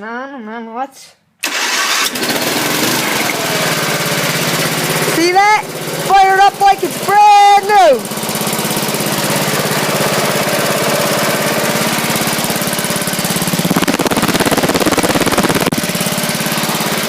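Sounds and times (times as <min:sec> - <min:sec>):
lawn mower engine running: 0:01.4 - 0:17.0.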